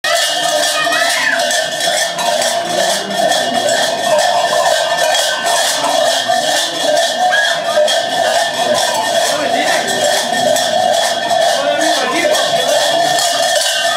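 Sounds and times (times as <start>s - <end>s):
cowbells clanging: 0.0s - 13.9s.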